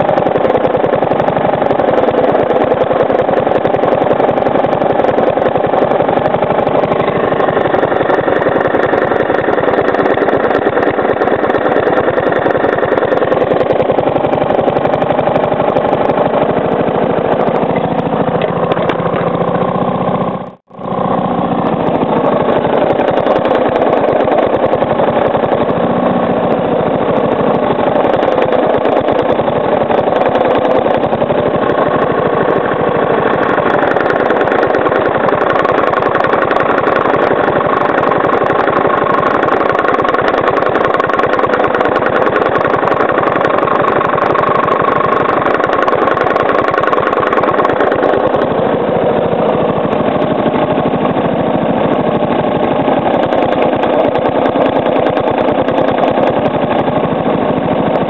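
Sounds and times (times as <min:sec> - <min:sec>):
engine knocking: 0:00.0 - 0:58.0
lawnmower engine running: 0:00.0 - 0:58.0.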